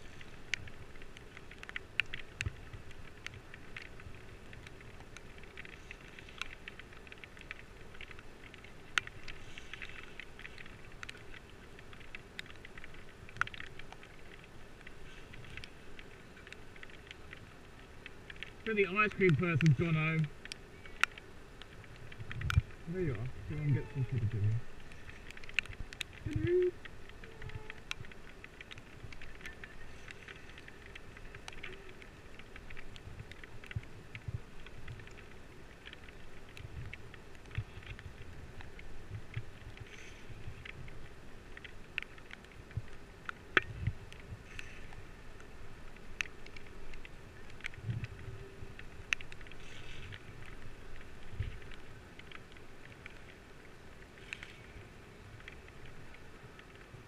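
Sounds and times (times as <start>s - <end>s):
raindrops pattering on plastic housing: 0.0s - 57.0s.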